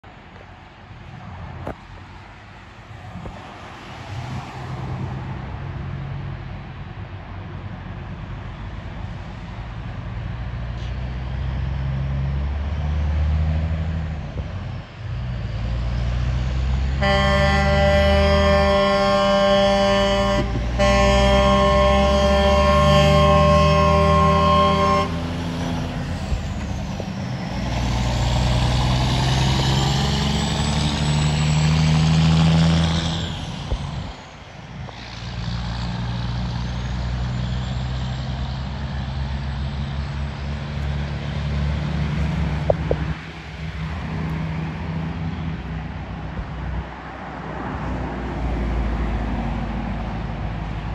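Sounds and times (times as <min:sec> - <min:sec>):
truck diesel engine accelerating: 0:03.1 - 0:50.9.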